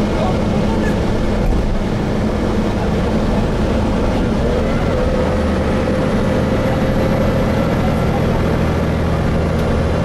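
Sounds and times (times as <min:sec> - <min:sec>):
bus engine drone: 0:00.0 - 0:10.0
road noise: 0:00.0 - 0:10.0.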